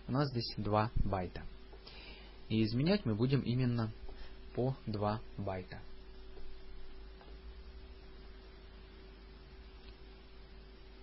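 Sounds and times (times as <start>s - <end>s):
background hiss: 0.0s - 11.0s
electrical hum: 0.0s - 11.0s
thin constant tone: 0.0s - 11.0s.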